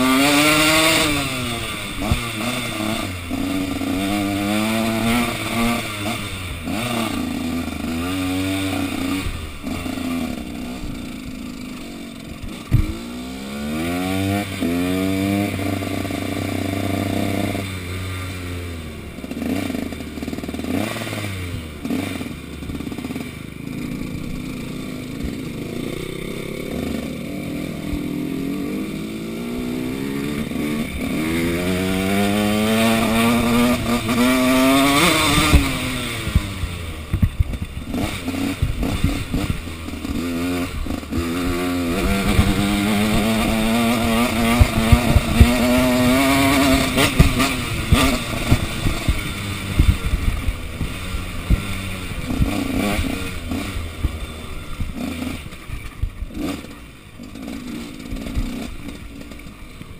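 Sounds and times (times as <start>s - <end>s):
knocks and rattles over rough ground: 0.0s - 17.3s, 21.8s - 59.9s
motocross bike engine revving: 0.0s - 59.9s.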